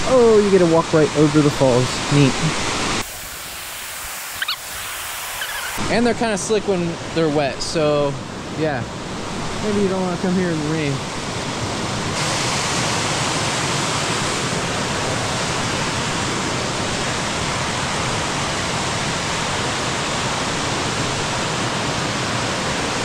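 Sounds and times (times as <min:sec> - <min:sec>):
waterfall rushing: 0:00.0 - 0:08.0, 0:08.6 - 0:23.0.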